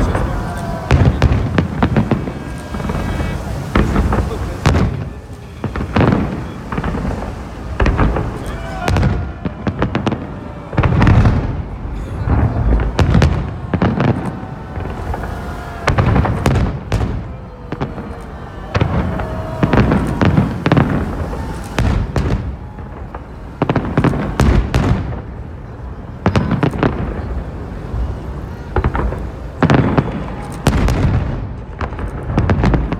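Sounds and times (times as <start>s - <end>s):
fireworks booming and cracking: 0.0s - 32.9s.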